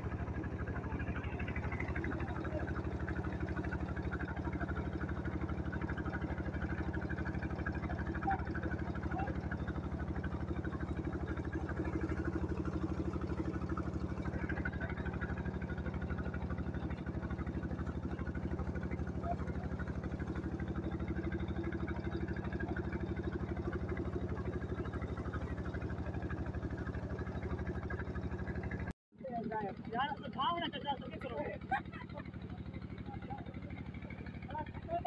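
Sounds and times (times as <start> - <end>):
pump engine running: 0.0 - 35.0.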